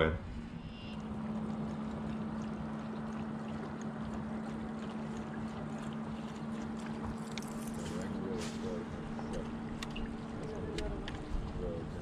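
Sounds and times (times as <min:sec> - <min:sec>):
steady low hum: 0:00.0 - 0:12.0
waves lapping against boat hull: 0:00.8 - 0:12.0.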